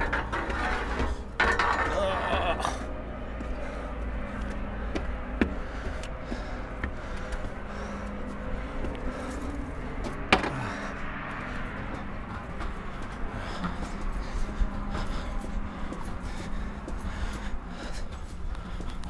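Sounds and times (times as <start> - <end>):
footsteps on outdoor steps: 0.0 - 19.0
road traffic hum: 0.0 - 19.0.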